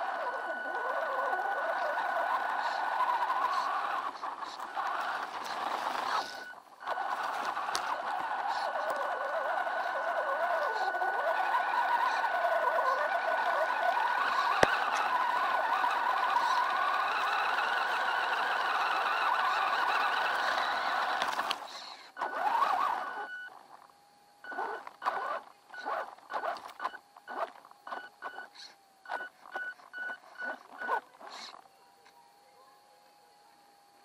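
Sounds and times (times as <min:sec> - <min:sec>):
toy truck motor whining: 0:00.0 - 0:32.2.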